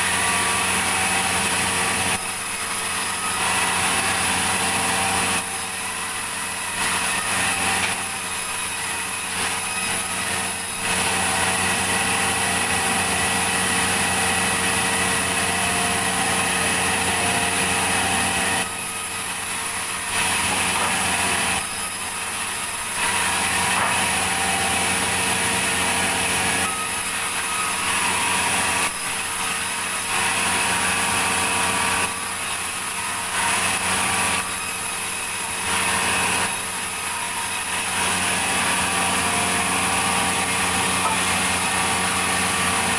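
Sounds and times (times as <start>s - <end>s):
saw cutting through log: 0.0s - 42.9s.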